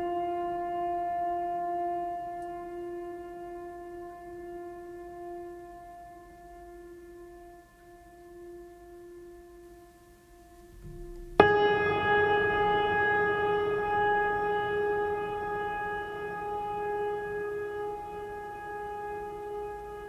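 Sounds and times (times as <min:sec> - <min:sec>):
quiet held drone: 0:00.0 - 0:20.0
sustained music chord: 0:00.0 - 0:20.0.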